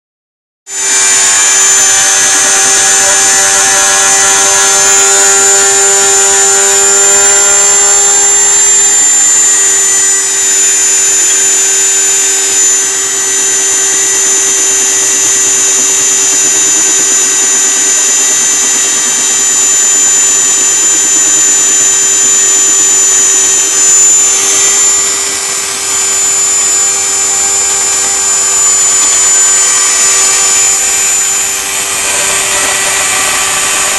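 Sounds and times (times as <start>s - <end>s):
milling machine high whine: 0.7s - 33.9s.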